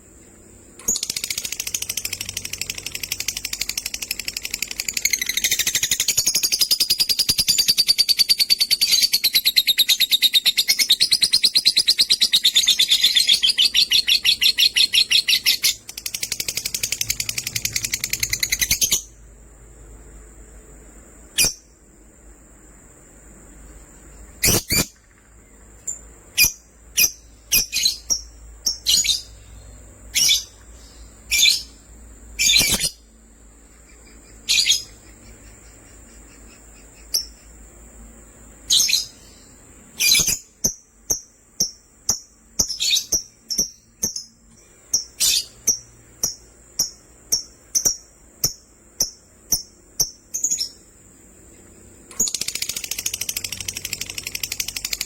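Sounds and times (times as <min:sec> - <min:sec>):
lovebirds chirping: 0:00.6 - 0:19.2, 0:23.5 - 0:55.0.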